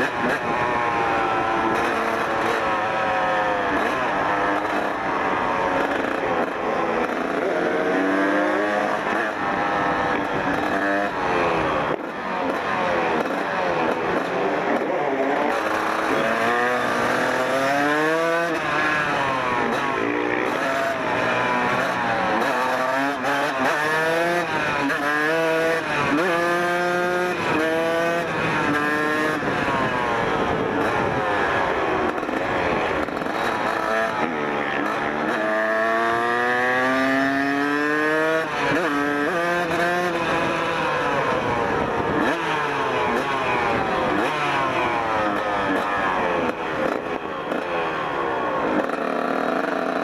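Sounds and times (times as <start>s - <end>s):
two-stroke motorcycle engine accelerating: 0.0s - 50.0s.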